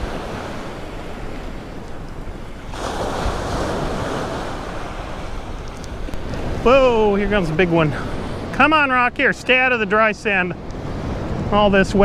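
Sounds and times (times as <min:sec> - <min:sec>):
ocean surf breaking on beach: 0:00.0 - 0:12.0
wind buffeting microphone: 0:00.0 - 0:12.0.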